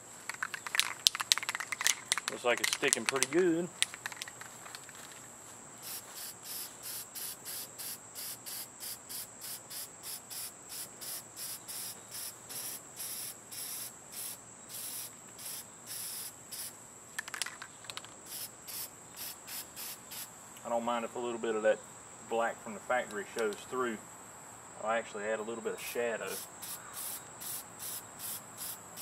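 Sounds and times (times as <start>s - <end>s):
insects calling rhythmically: 0.0s - 29.0s.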